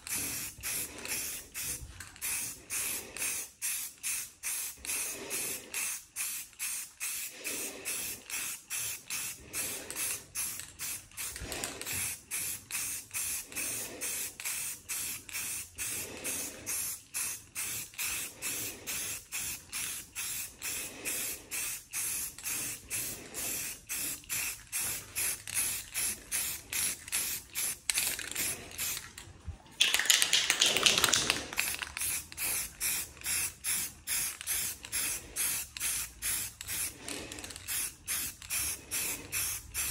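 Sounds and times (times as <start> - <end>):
aerosol spray can hissing: 0.0 - 29.0, 30.1 - 39.9.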